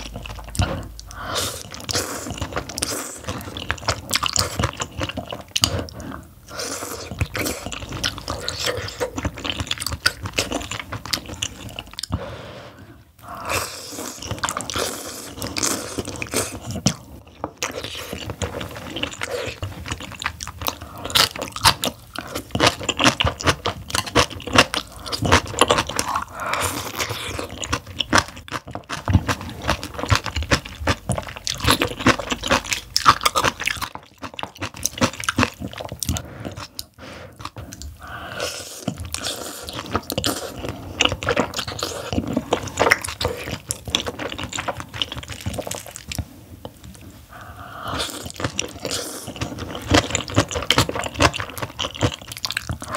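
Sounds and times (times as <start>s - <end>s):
chewing with crisp crunching: 0.0s - 12.2s, 13.2s - 52.9s.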